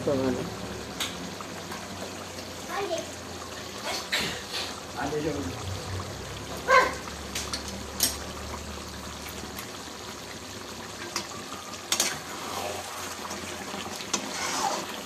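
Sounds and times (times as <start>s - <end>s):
curry simmering and bubbling: 0.0s - 15.0s.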